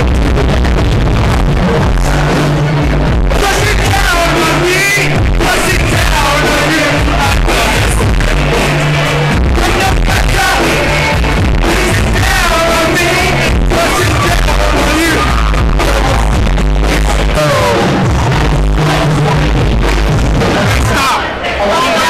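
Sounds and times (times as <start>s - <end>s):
dance music with singing: 0.0s - 22.0s.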